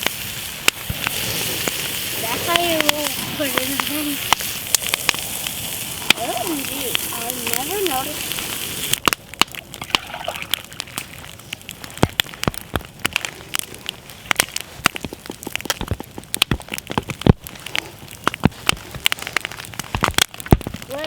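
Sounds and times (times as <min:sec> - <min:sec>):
campfire crackling: 0:00.0 - 0:21.0
sharp fire pops: 0:00.0 - 0:21.0.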